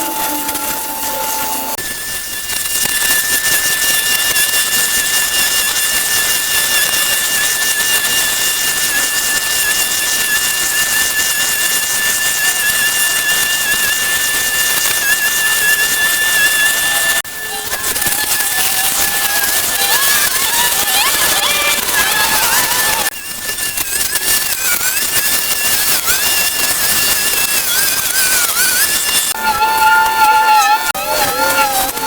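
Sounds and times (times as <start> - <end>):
steady hissing: 0.0 - 29.4
high whistling tone: 0.0 - 32.0.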